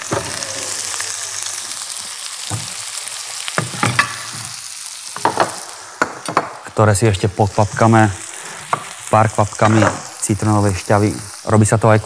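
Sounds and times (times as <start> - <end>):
steaks sizzling in pan: 0.0 - 12.0.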